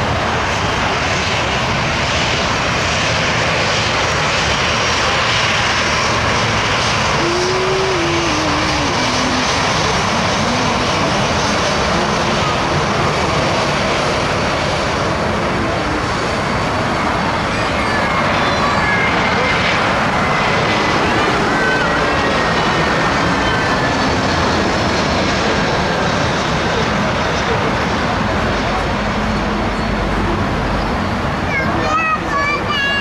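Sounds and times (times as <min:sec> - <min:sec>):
jet engines passing: 0:00.0 - 0:33.0.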